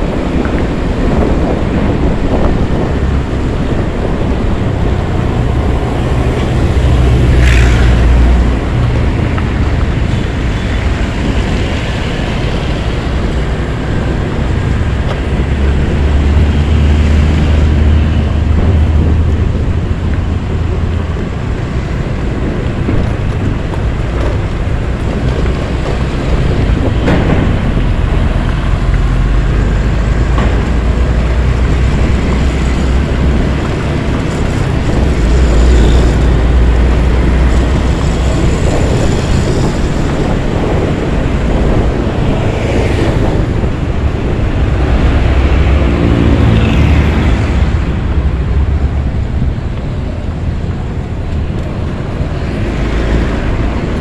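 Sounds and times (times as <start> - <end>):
road noise: 0.0 - 54.0
truck diesel engines rumbling: 0.0 - 54.0.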